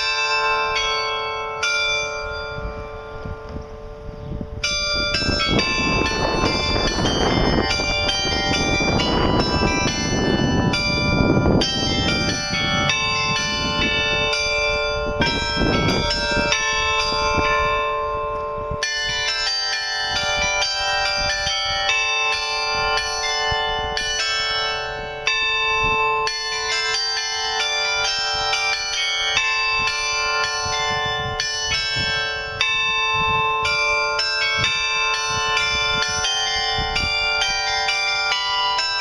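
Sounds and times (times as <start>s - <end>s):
carillon bells playing a tune: 0.0s - 39.0s.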